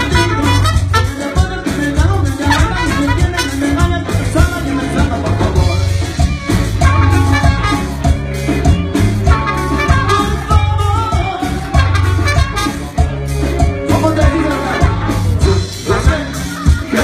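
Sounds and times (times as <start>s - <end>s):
bass: 0.0s - 17.0s
drum kit: 0.0s - 17.0s
live latin band: 0.0s - 17.0s.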